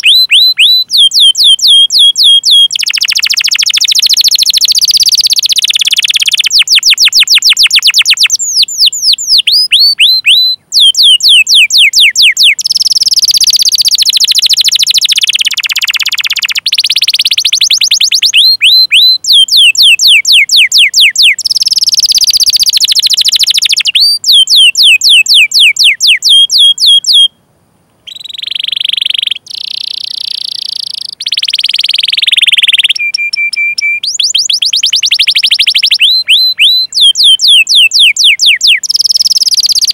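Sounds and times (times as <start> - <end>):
canary singing: 0.0 - 27.4, 28.0 - 39.9.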